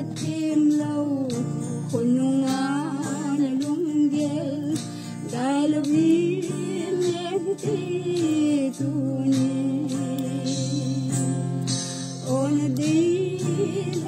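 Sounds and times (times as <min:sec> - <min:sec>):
strummed acoustic guitar: 0:00.0 - 0:14.0
woman singing: 0:00.0 - 0:14.0.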